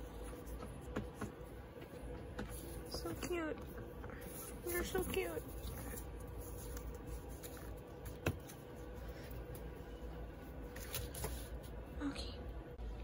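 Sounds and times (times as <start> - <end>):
paper pads handled on desk: 0.0 - 9.8, 10.5 - 11.8
low steady hum: 0.0 - 13.0.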